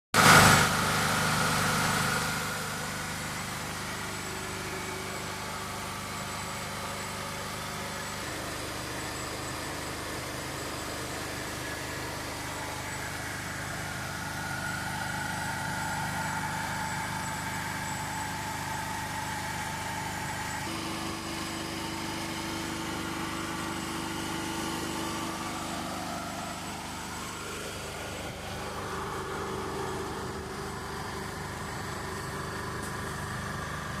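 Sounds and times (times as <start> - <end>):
generator engine running: 0.2 - 34.0.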